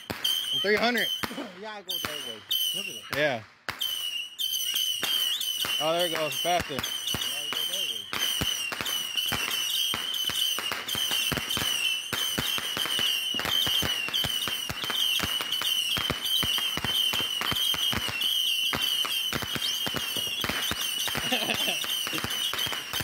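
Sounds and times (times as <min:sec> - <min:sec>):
firework rockets popping: 0:00.0 - 0:23.0
high whistle of rising rockets: 0:00.0 - 0:23.0.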